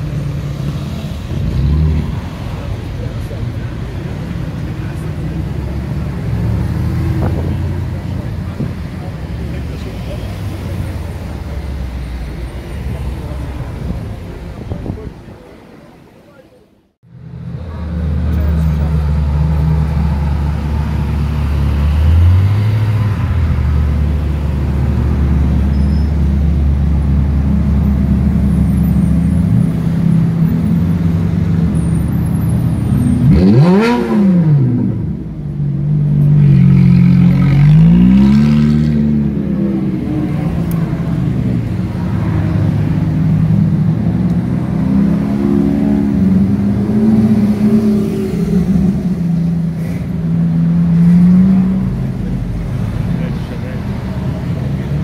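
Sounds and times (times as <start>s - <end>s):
sports car engines running: 0.0s - 15.3s, 17.0s - 55.0s.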